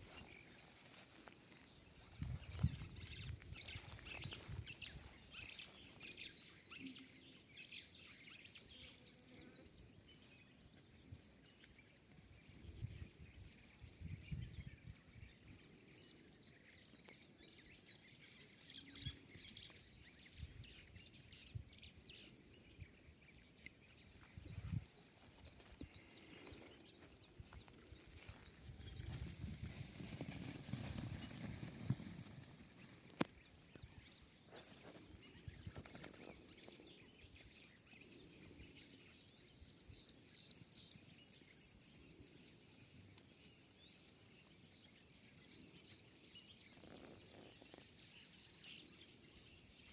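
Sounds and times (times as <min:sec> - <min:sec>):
birds chirping: 0:00.0 - 0:42.2
insect drone: 0:00.0 - 0:49.9.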